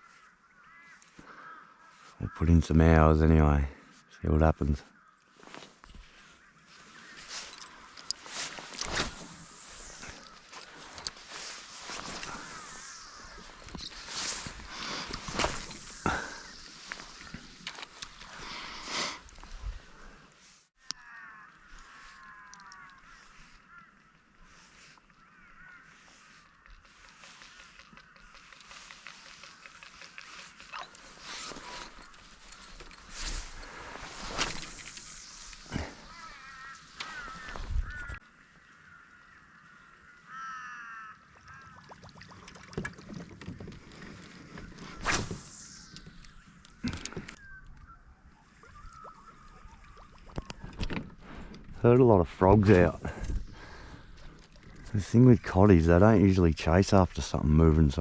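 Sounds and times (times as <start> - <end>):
chorus of wildlife calls: 0.0 - 2.7, 3.8 - 42.1, 43.1 - 55.7.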